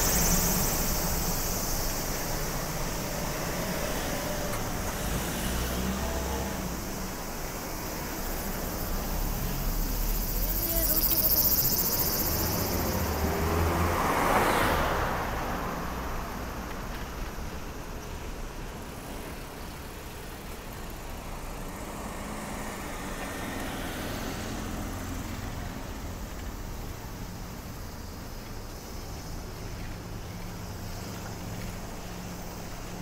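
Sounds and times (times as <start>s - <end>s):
car passing by: 0.0s - 33.0s.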